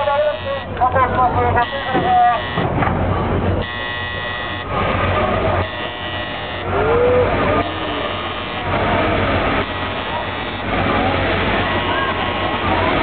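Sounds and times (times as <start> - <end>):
warning buzzer blasts: 0.0 - 2.8, 3.6 - 6.8, 7.5 - 13.0
crowd murmur: 0.0 - 13.0.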